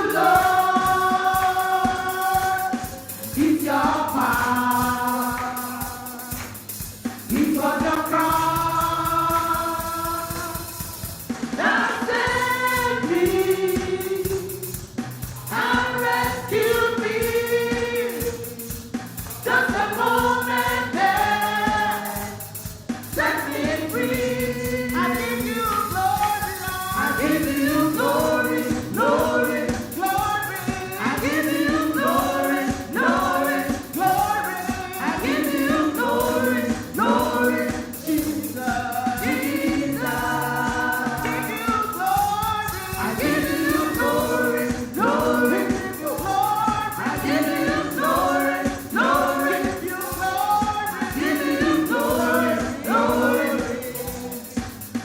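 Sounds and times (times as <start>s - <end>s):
group singing gospel song: 0.0s - 55.0s
keyboard accompaniment with beat: 0.0s - 55.0s.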